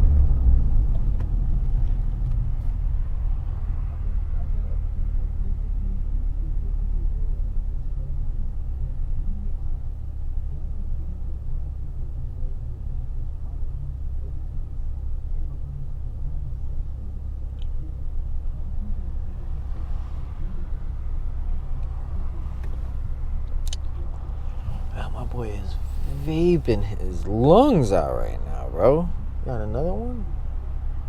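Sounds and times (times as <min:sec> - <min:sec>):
car engine rumbling in cabin: 0:00.0 - 0:31.0
road noise: 0:00.0 - 0:31.0.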